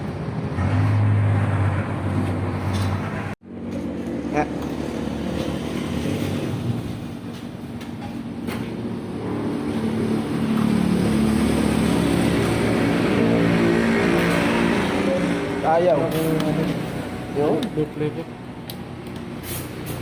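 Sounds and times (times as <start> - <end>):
motorcycle engine revving: 0.4 - 7.6, 8.2 - 18.1.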